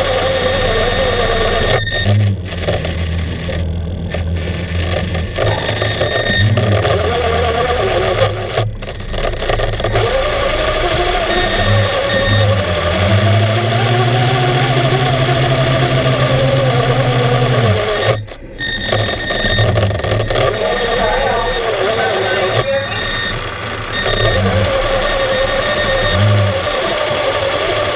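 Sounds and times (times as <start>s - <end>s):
low droning hum: 0.0s - 27.8s.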